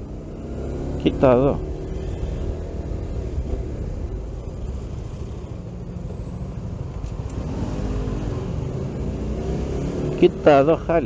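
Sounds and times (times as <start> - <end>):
motorcycle engine low rumble: 0.0 - 11.0
road noise: 0.0 - 11.0.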